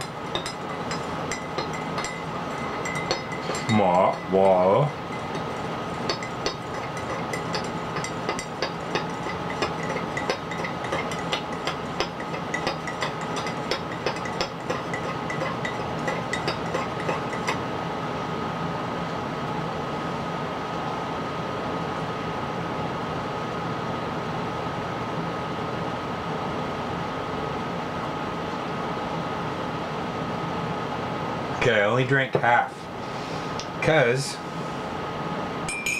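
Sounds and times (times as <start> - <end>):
room hum with faint high tone: 0.0 - 35.9.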